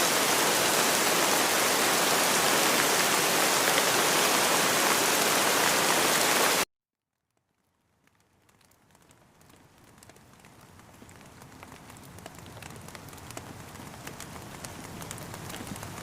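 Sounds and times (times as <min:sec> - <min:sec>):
rain falling: 0:00.0 - 0:06.7, 0:07.4 - 0:16.0
faint rain patter: 0:00.0 - 0:16.0.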